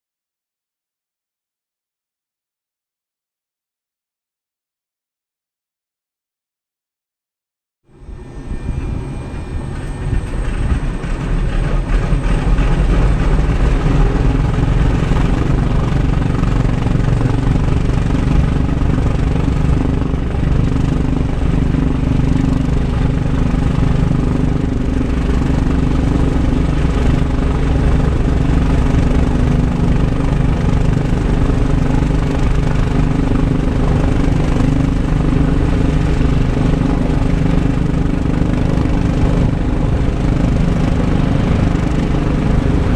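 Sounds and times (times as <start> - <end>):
radial piston engines rumbling: 7.9 - 42.9.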